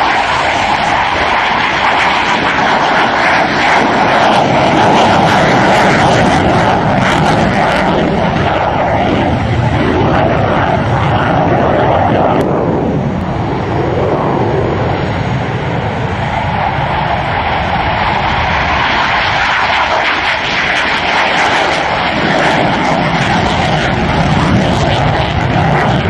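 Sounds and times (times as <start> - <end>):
fighter jet flying past: 0.0 - 26.0.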